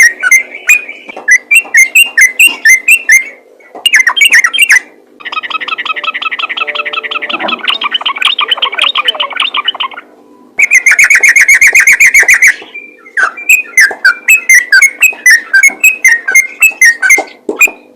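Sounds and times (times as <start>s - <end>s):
bulbul chirping song: 0.0s - 17.9s.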